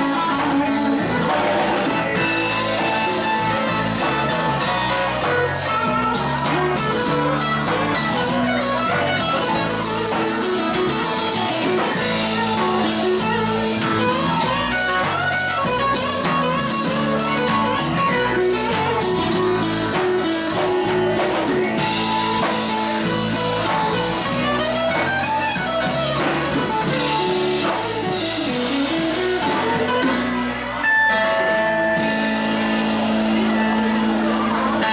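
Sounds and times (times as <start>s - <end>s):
bass guitar: 0.0s - 34.9s
drum kit: 0.0s - 34.9s
electric guitars: 0.0s - 34.9s.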